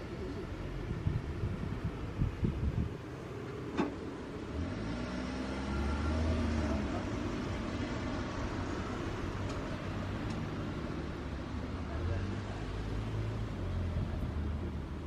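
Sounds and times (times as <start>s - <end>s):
distant conversation murmur: 0.0s - 4.5s, 5.6s - 15.0s.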